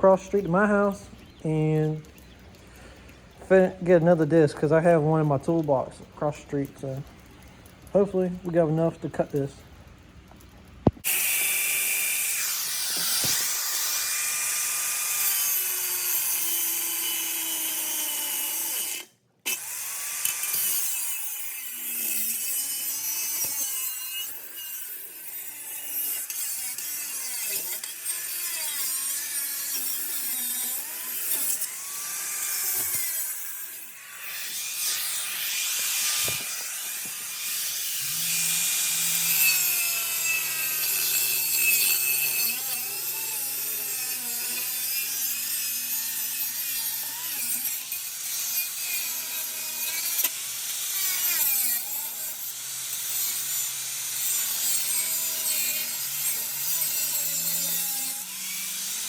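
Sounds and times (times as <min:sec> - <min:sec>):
angle grinder cutting steel pipe: 0:10.8 - 0:59.0.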